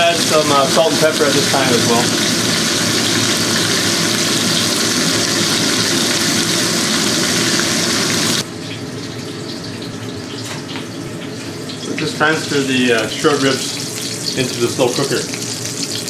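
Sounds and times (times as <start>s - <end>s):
meat sizzling in a pan: 0.1s - 8.4s, 11.4s - 16.0s.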